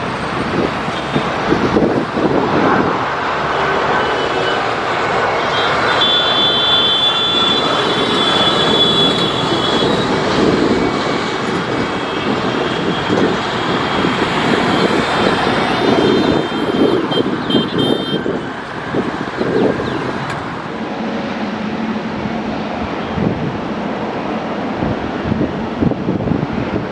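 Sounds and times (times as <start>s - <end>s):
jet engines running: 0.0s - 26.9s.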